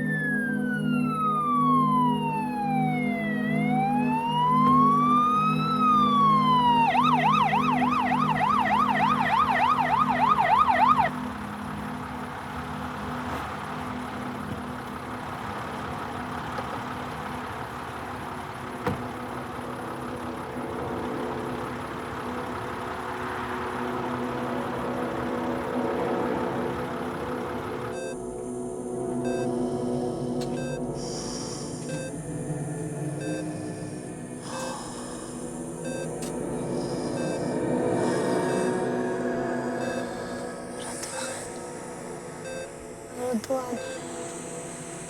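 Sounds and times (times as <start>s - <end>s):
soft background music: 0.0s - 20.6s, 21.5s - 45.0s
emergency vehicle siren: 0.0s - 28.3s, 29.1s - 45.0s.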